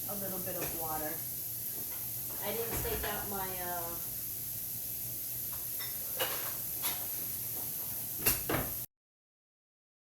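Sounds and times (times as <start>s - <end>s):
onions sizzling in a hot pan: 0.0s - 8.9s.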